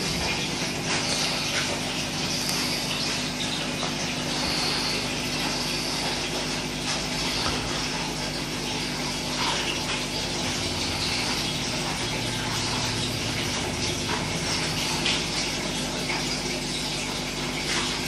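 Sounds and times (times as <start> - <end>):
aquarium water bubbling: 0.0 - 18.0.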